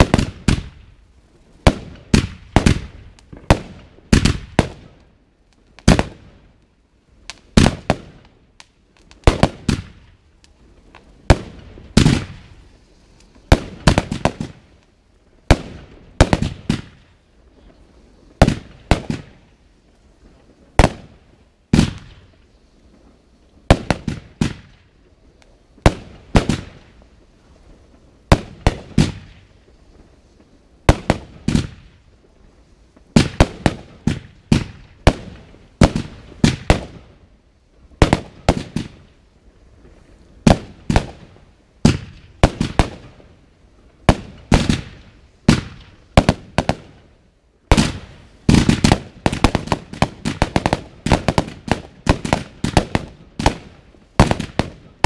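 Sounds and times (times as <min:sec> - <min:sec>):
fireworks bangs echoing: 0:00.0 - 0:05.2, 0:05.8 - 0:06.6, 0:07.3 - 0:14.8, 0:15.4 - 0:19.6, 0:20.2 - 0:25.0, 0:25.8 - 0:32.3, 0:32.9 - 0:37.2, 0:38.0 - 0:39.1, 0:39.8 - 0:43.4, 0:44.0 - 0:55.0.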